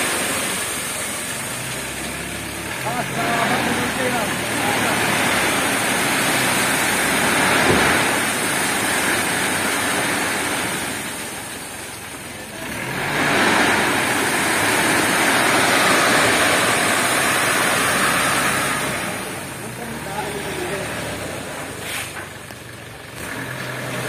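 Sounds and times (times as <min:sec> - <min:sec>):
gravel sliding off truck bed: 0:00.0 - 0:24.0
truck engine running: 0:00.0 - 0:24.0.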